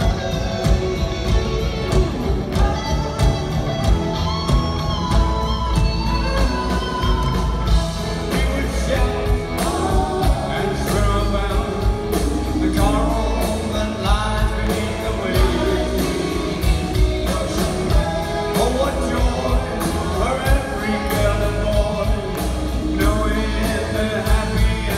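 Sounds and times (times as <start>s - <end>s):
person singing: 0.0s - 24.9s
rock band music: 0.0s - 24.9s.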